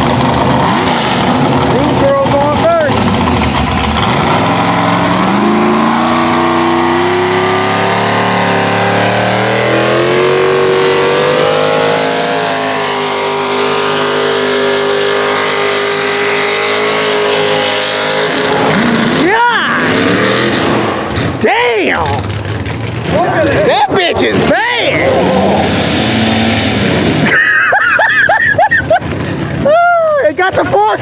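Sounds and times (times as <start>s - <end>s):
tractor engine at full throttle: 0.0s - 31.0s.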